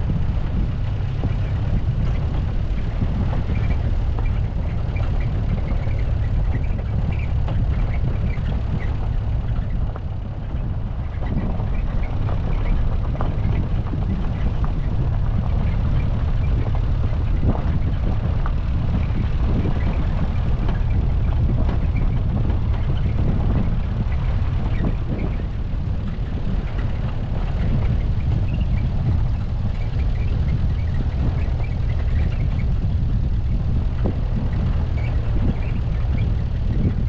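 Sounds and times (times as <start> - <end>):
car driving rumble: 0.0 - 37.0.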